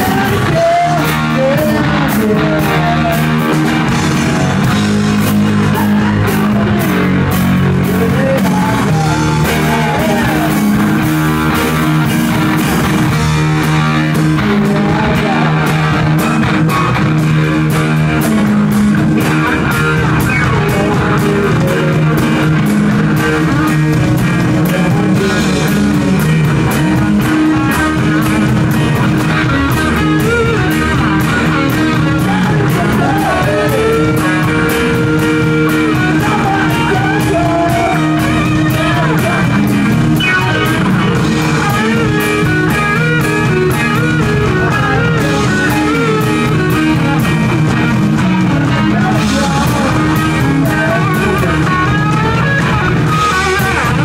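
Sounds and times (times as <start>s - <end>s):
bass guitar: 0.0s - 54.0s
drum kit: 0.0s - 54.0s
electric guitar: 0.0s - 54.0s
keyboard: 0.0s - 54.0s
lead vocalist singing: 0.0s - 54.0s.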